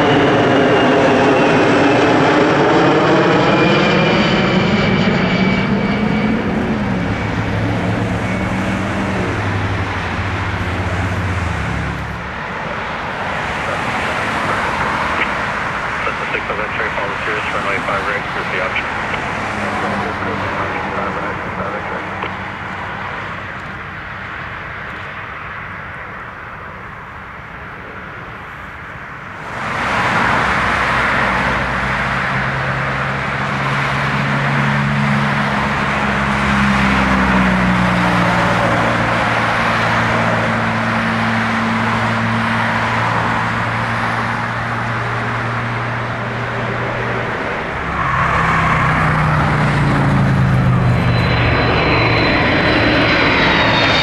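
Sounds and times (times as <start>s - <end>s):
jet engine noise: 0.0s - 54.0s.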